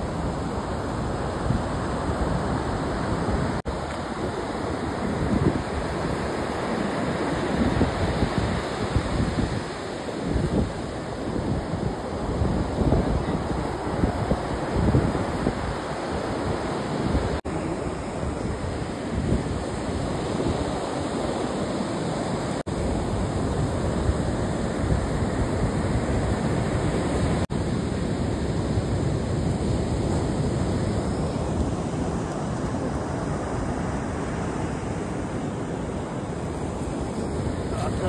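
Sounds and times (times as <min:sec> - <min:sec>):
rough surf: 0:00.0 - 0:38.0
wind buffeting microphone: 0:00.0 - 0:38.0.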